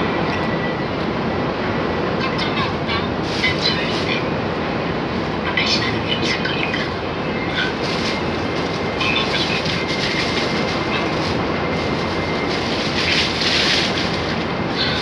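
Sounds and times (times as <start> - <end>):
heavy rain pouring: 2.0 - 15.0.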